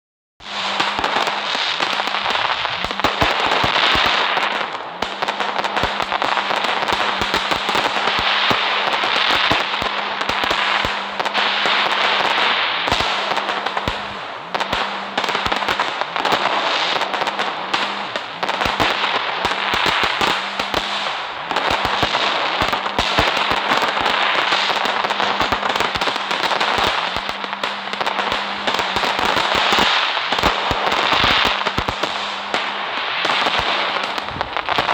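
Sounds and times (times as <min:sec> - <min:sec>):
fireworks crackling and popping: 0:00.4 - 0:34.9
steady hiss: 0:00.4 - 0:34.9.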